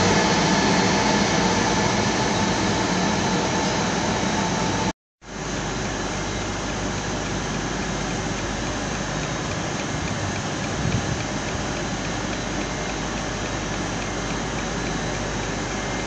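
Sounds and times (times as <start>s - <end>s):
train steady hiss: 0.0s - 16.0s.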